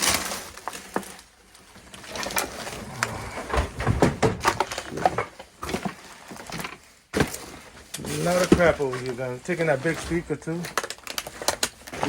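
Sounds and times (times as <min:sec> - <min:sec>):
objects handled and set down: 0:00.0 - 0:12.0.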